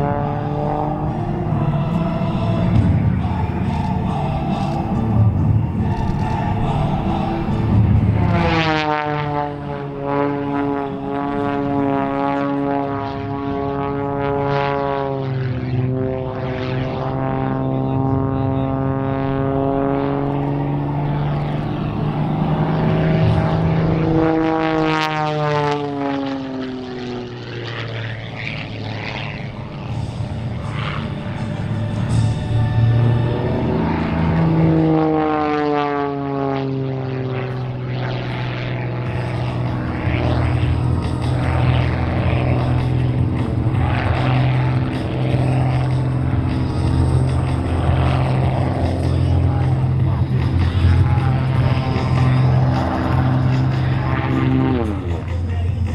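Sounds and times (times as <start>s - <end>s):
propeller plane droning: 0.0s - 55.9s.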